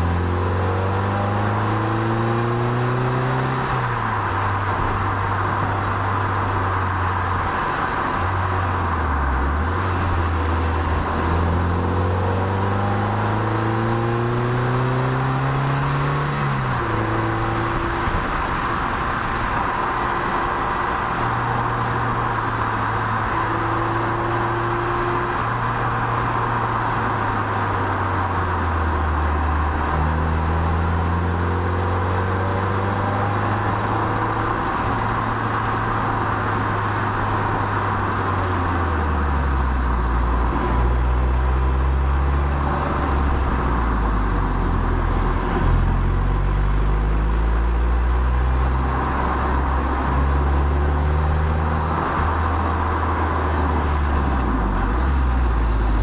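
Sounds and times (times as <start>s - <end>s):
car engine revving: 0.0s - 56.0s
wind and road noise: 0.0s - 56.0s.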